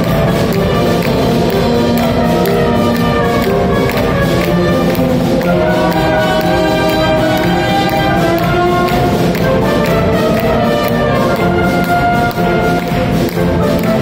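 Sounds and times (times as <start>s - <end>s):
wind band playing: 0.0s - 14.0s.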